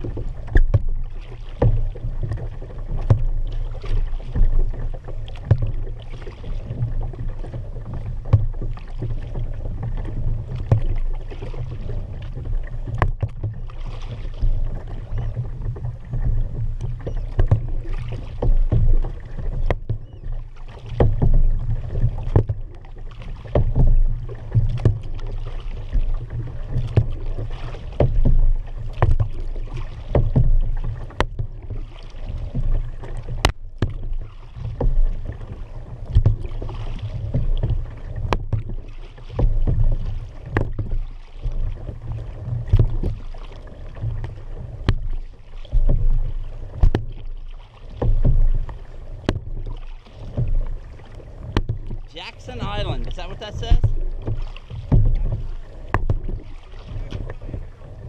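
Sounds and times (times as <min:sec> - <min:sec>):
low rumble on microphone: 0:00.0 - 0:58.0
paddle strokes splashing: 0:00.0 - 0:58.0.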